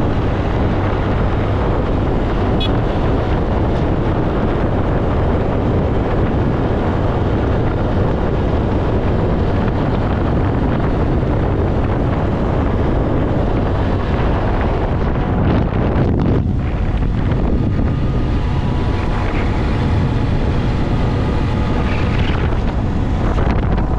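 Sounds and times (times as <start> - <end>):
motorcycle road noise: 0.0 - 23.9
wind buffeting microphone: 0.0 - 23.9.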